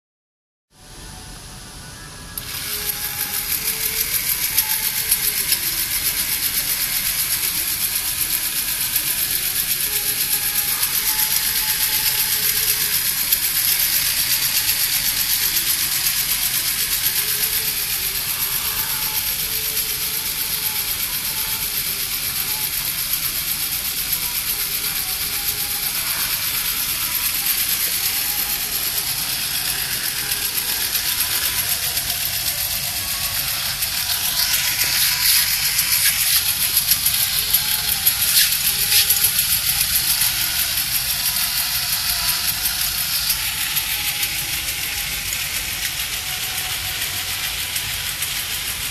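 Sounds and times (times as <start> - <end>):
toy motor and gears whirring: 2.3 - 48.9.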